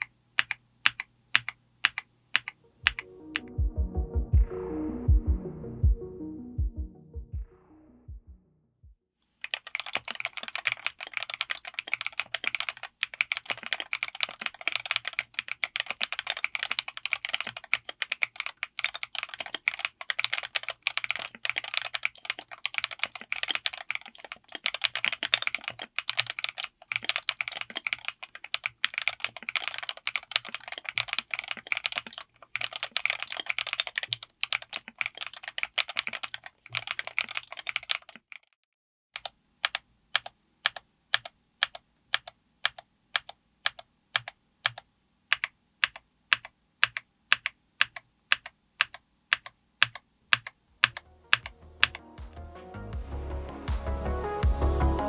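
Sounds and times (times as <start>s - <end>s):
fast typing on mechanical keyboard: 0.0s - 3.0s, 9.4s - 38.5s, 39.2s - 52.0s.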